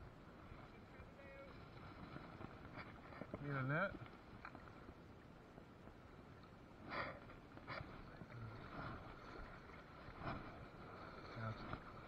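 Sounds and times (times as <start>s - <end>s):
shallow river flowing: 0.0s - 12.0s.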